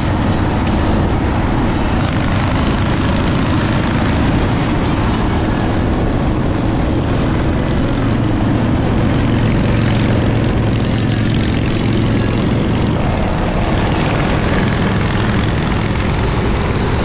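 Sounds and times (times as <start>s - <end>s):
motorcycle engine running: 0.0s - 17.0s
wind rush: 0.0s - 17.0s.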